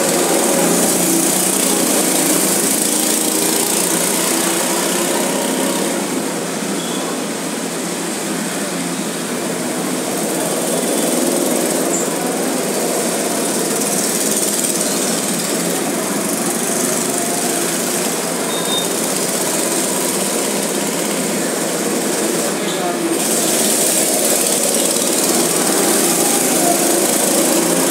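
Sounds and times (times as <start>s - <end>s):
go-kart engines droning: 0.0s - 27.9s.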